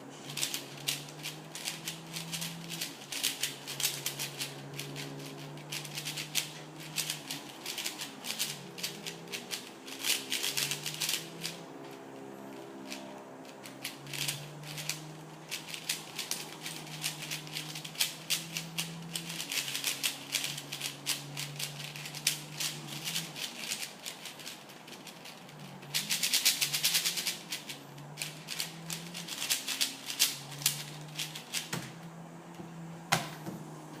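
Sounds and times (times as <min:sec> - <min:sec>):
puzzle cube plastic clicking: 0:00.2 - 0:11.6, 0:12.4 - 0:32.0.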